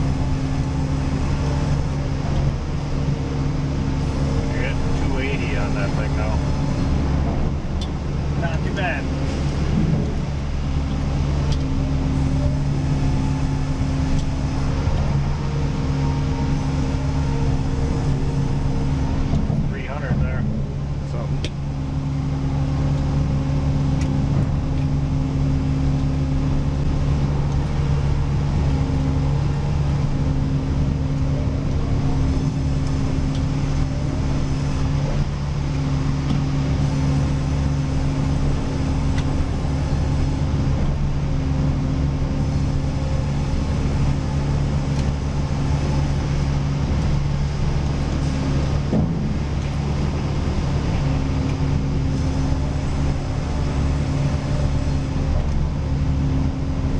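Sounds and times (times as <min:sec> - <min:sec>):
higher machine hum: 0:00.0 - 0:56.9
sawmill machinery engine drone: 0:00.0 - 0:56.9.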